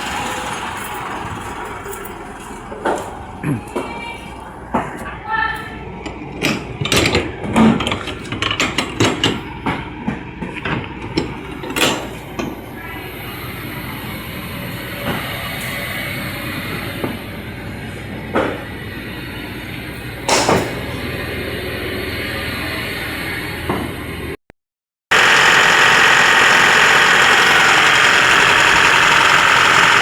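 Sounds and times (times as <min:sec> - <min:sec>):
refrigeration unit running: 0:00.0 - 0:24.3, 0:25.1 - 0:30.0.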